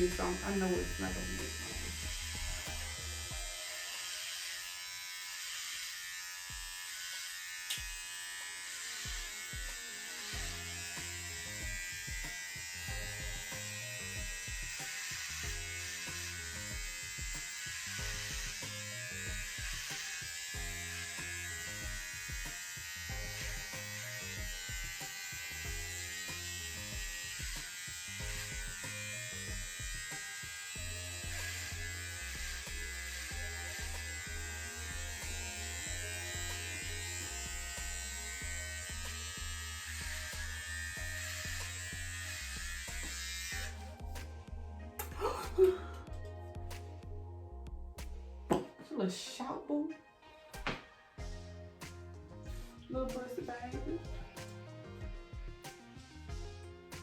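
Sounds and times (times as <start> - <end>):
background music with beat: 0.0 - 3.9, 9.1 - 48.9, 50.2 - 57.0
electric hair clipper buzzing: 0.0 - 46.3, 50.6 - 57.0.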